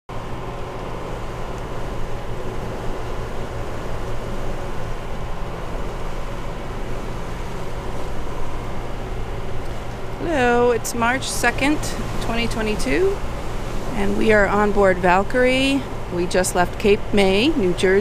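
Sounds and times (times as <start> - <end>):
boat engines droning: 0.1 - 18.0
water rushing along hull: 0.1 - 18.0.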